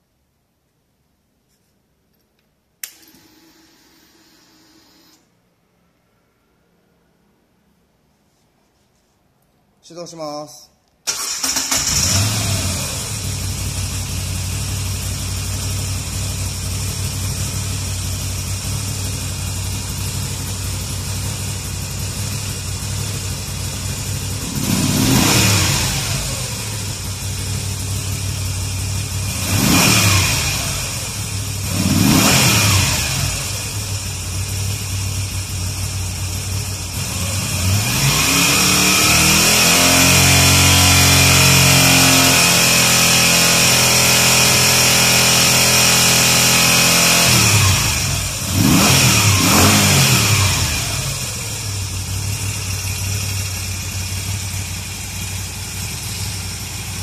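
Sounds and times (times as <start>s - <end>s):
motorcycle engine idling and revving: 11.2s - 57.0s.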